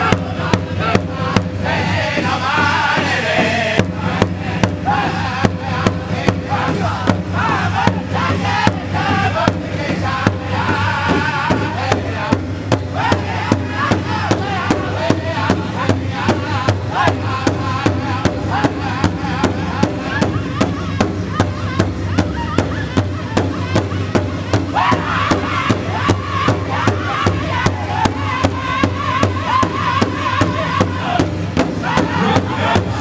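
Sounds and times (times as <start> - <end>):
group high-pitched singing: 0.0 - 33.0
large drum struck in unison: 0.0 - 33.0.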